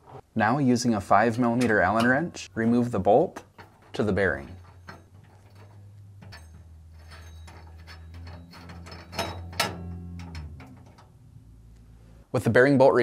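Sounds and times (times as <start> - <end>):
low steady hum: 0.0 - 13.0
metallic clicking and scraping: 1.3 - 12.3.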